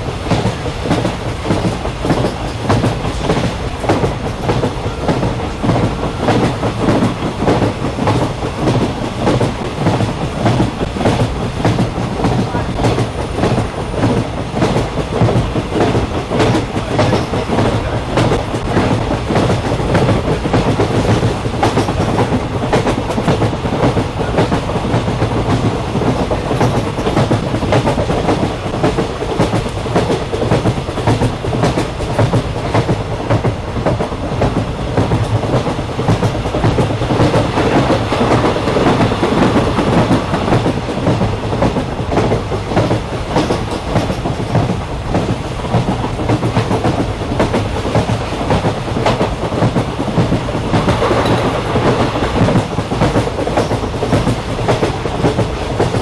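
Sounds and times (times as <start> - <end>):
train rumbling: 0.0 - 56.0
wheels clacking over rails: 0.0 - 56.0.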